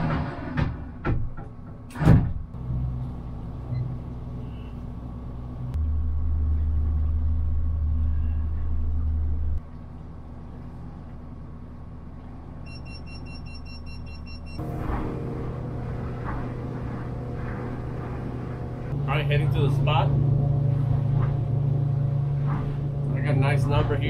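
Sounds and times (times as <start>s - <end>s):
boat engine rumbling: 2.6s - 24.0s.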